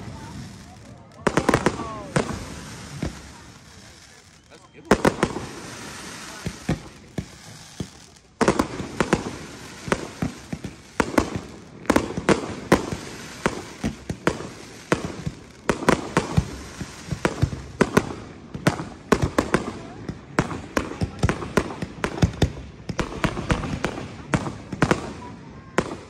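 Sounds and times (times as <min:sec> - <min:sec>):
fireworks hiss and crackle: 0:00.0 - 0:26.0.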